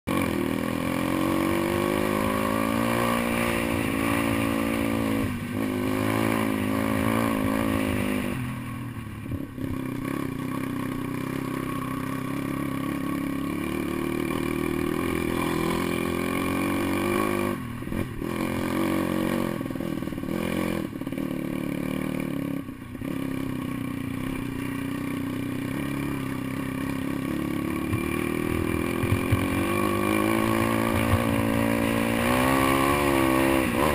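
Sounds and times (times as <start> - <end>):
motorbike engine revving: 0.1 - 33.9.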